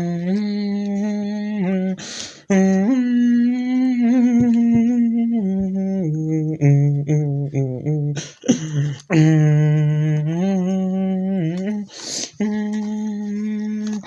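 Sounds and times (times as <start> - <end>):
person humming: 0.0 - 14.0.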